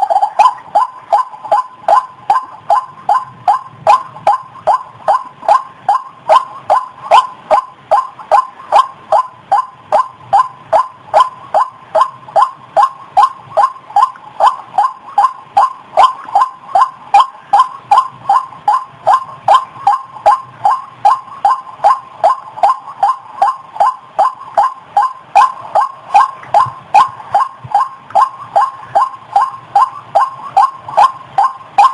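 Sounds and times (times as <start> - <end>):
waterhen calling: 0.0 - 31.9.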